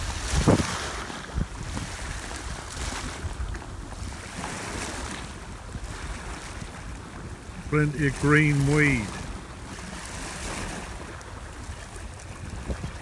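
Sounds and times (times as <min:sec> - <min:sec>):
small waves rushing at shore: 0:00.0 - 0:13.0
wind buffeting microphone: 0:00.0 - 0:13.0.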